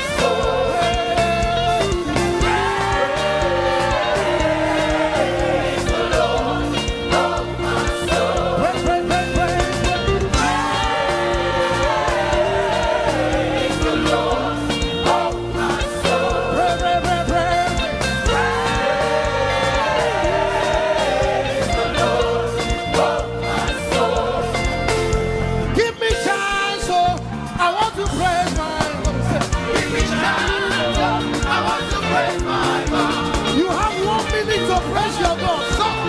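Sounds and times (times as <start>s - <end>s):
band with a steady beat: 0.0s - 36.0s
voices singing gospel: 0.0s - 36.0s.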